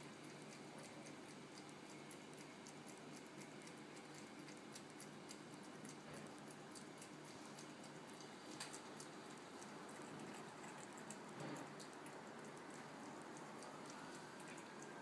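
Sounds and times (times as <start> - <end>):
cat lapping wet tongue clicks: 0.0 - 15.0.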